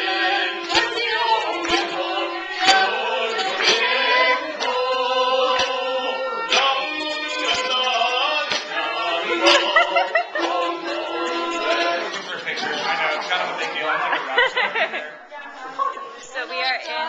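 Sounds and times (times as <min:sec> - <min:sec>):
music with singing voices: 0:00.0 - 0:17.0.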